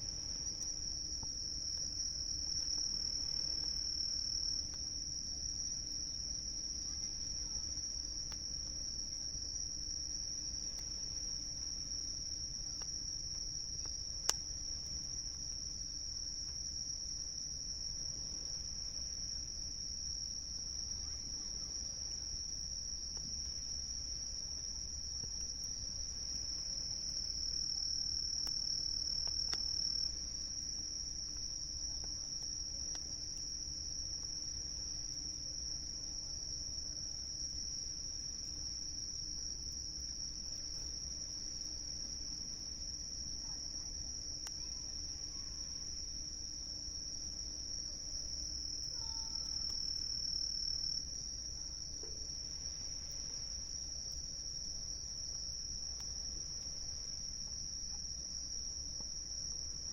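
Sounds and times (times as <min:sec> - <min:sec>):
night insects trilling: 0:00.0 - 0:59.9
campfire crackle: 0:00.1 - 0:59.9.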